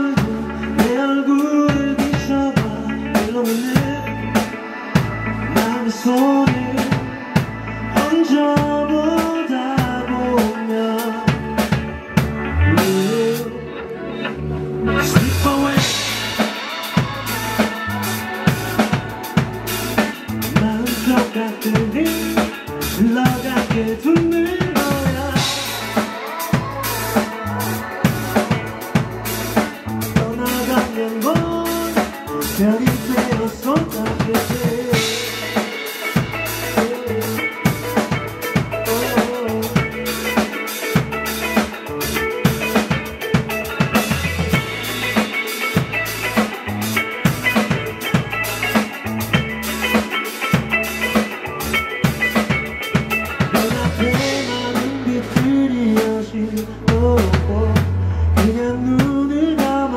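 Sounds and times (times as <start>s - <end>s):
drum kit steady beat: 0.0s - 13.5s, 15.0s - 59.9s
live rock band playing: 0.0s - 59.9s.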